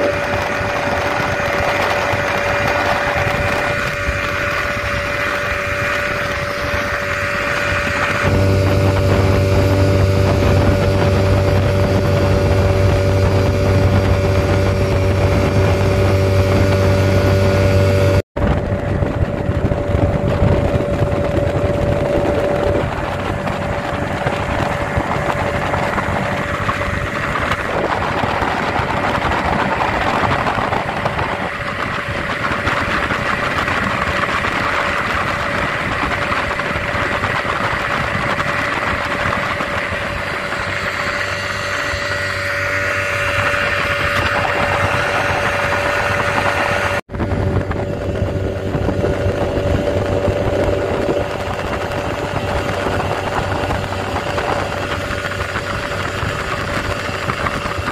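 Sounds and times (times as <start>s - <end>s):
motorboat engine droning: 0.0s - 57.9s
wind: 0.0s - 57.9s.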